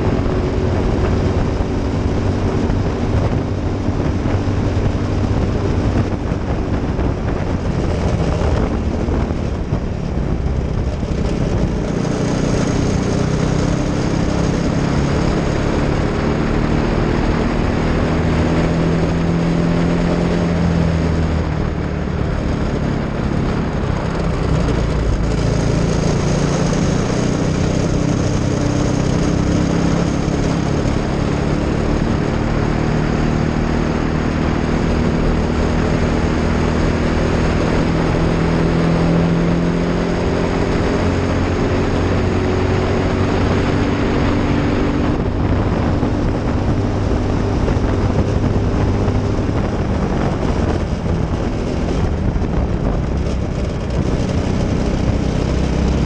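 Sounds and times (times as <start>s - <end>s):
kart engine racing: 0.0s - 56.0s
wind rush on microphone: 0.0s - 56.0s.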